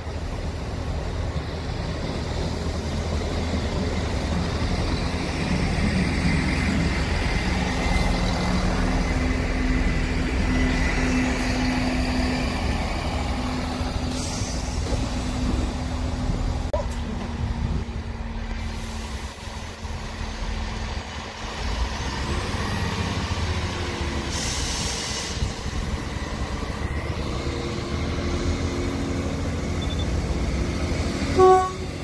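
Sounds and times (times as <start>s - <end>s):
diesel train pulling in: 0.0s - 32.0s.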